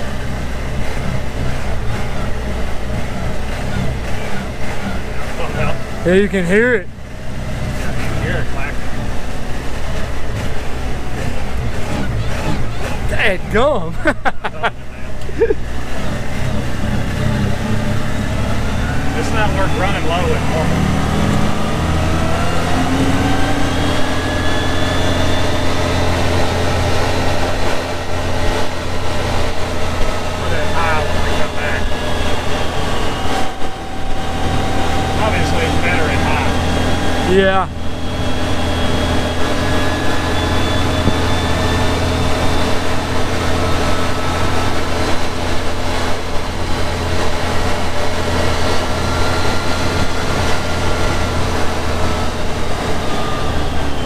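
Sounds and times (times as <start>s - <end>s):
vehicle engine whine: 0.0s - 54.0s.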